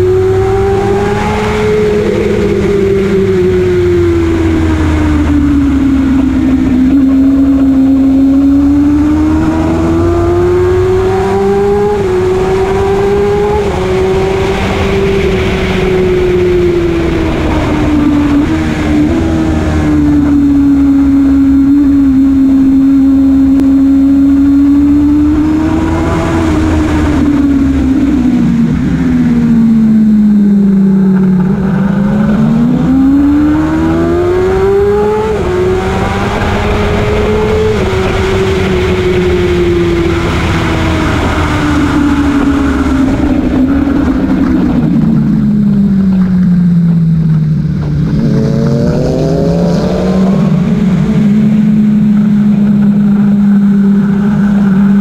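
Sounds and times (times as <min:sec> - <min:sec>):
motorcycle engine revving: 0:00.0 - 0:55.0
wind noise: 0:00.0 - 0:55.0.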